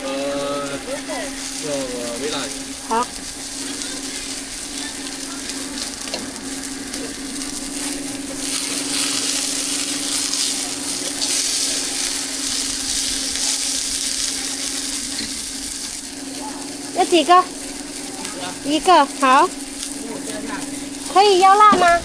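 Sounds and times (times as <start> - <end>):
food sizzling on a griddle: 0.0 - 22.0
steady low hum: 0.0 - 22.0.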